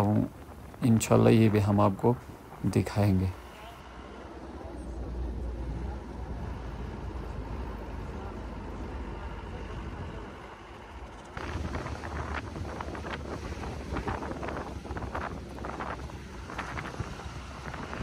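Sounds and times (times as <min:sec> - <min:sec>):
wind buffeting microphone: 0:00.0 - 0:04.0, 0:05.0 - 0:18.0
vehicle engine and road noise: 0:00.0 - 0:18.0.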